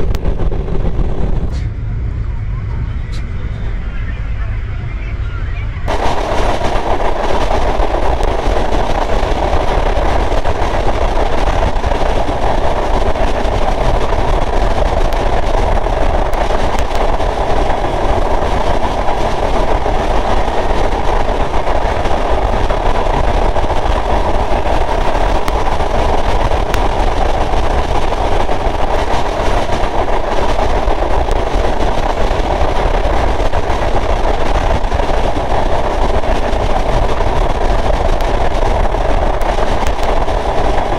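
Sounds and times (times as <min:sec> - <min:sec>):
train rumbling along track: 0:00.0 - 0:40.9.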